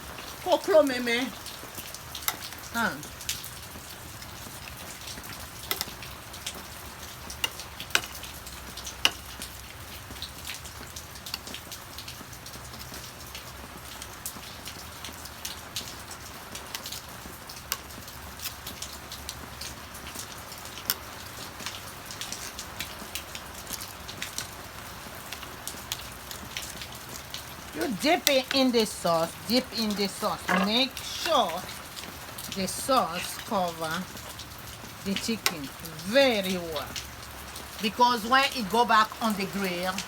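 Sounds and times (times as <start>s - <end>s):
rain falling: 0.0s - 40.0s
raindrops ticking on hard surface: 0.0s - 40.0s.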